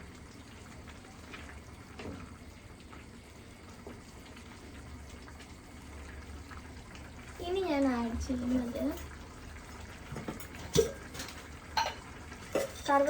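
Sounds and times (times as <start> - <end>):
pot simmering and bubbling: 0.0 - 13.0.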